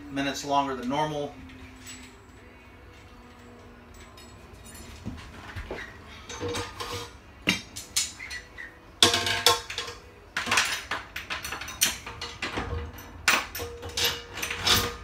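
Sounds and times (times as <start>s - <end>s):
metal rack clinking and clanking: 0.7s - 15.0s.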